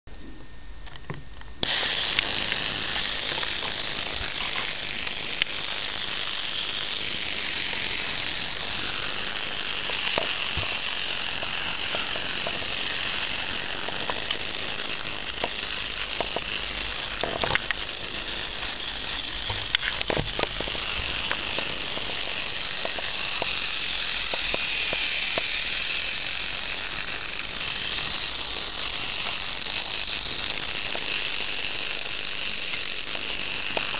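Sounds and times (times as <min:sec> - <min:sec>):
toy train electric motor running: 0:01.6 - 0:33.9.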